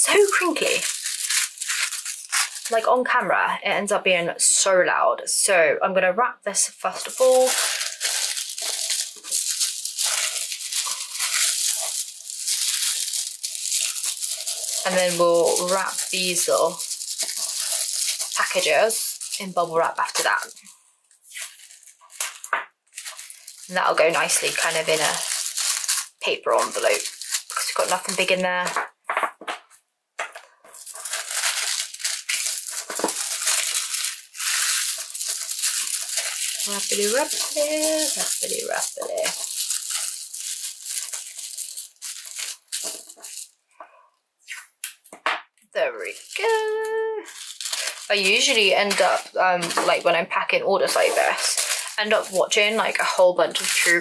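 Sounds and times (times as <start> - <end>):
tissue paper crackling rustle: 0.0 - 3.2, 6.9 - 28.8, 30.6 - 43.6, 46.0 - 54.0.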